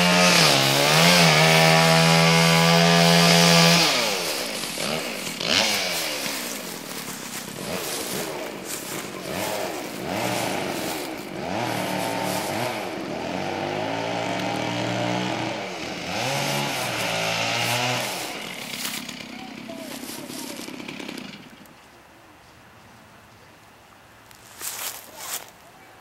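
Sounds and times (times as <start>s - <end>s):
chainsaw revving and bogging: 0.0s - 21.8s.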